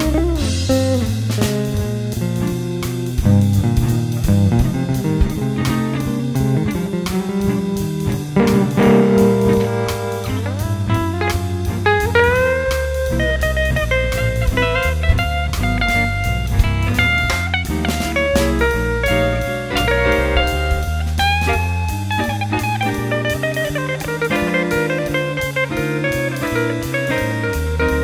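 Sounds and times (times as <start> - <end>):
bass: 0.0 - 28.0
lead guitar: 0.0 - 28.0
steady drum beat: 0.0 - 28.0.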